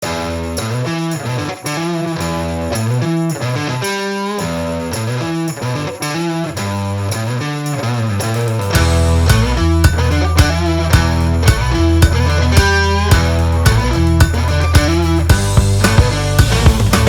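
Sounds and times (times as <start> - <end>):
electric guitar music with beat: 0.0 - 17.0.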